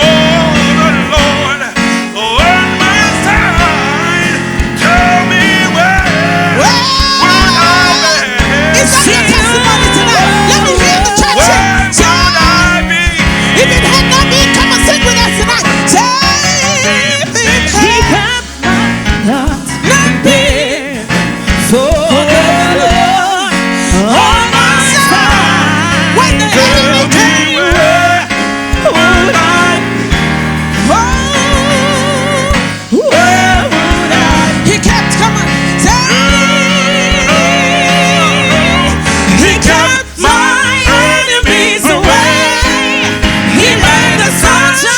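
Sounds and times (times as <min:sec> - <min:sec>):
band playing steady beat: 0:00.0 - 0:44.9
person singing with vibrato: 0:00.0 - 0:44.9.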